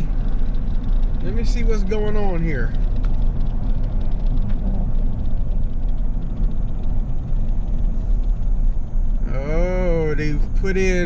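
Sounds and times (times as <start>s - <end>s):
truck engine droning: 0.0s - 11.0s
tyre rumble and road noise: 0.0s - 11.0s.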